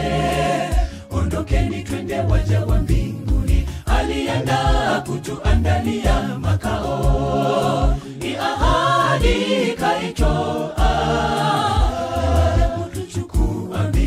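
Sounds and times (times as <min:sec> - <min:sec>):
low bass beat: 0:00.0 - 0:09.5, 0:10.2 - 0:14.0
group singing gospel in harmony: 0:00.0 - 0:14.0.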